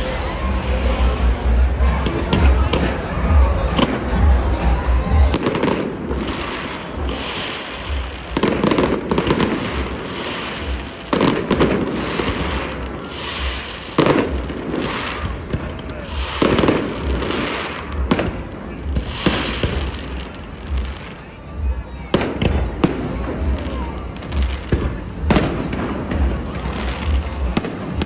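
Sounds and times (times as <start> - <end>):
fireworks crackling: 0.0 - 28.0.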